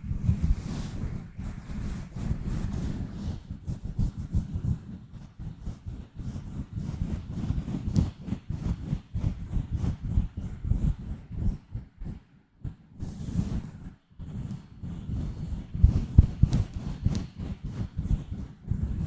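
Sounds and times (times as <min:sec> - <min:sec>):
scratching on a microphone: 0:00.0 - 0:19.0.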